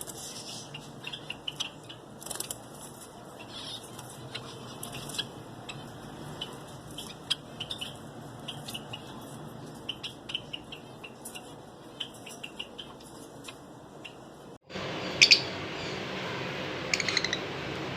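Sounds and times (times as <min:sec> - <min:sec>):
finches chirping: 0:00.2 - 0:02.6, 0:03.3 - 0:14.3, 0:15.1 - 0:16.0, 0:16.9 - 0:17.5.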